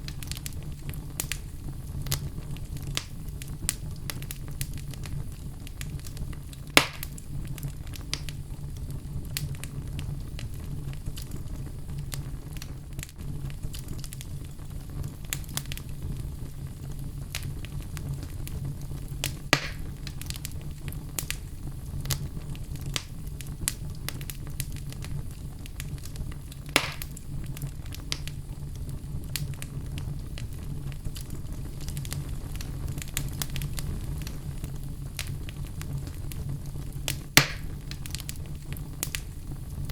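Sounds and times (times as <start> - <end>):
fire low rumble: 0.0 - 39.9
loud fire pops: 0.0 - 39.9
wood fire crackling: 0.0 - 39.9.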